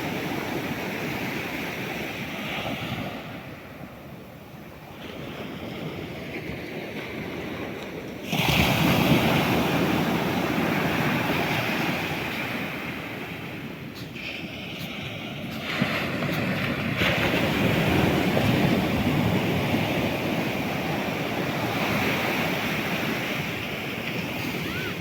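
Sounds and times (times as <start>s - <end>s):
waves washing: 0.0s - 25.0s.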